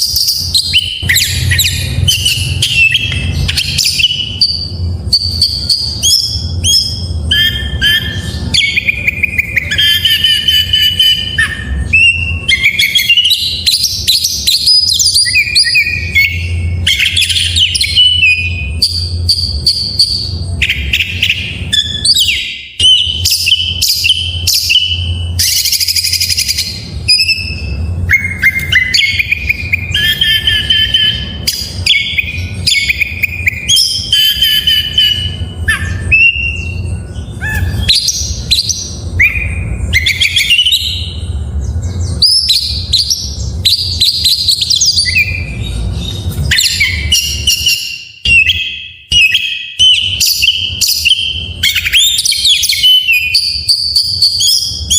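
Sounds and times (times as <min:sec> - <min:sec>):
bird singing varied whistles: 0:00.0 - 0:54.9
steady low hum: 0:00.0 - 0:54.9.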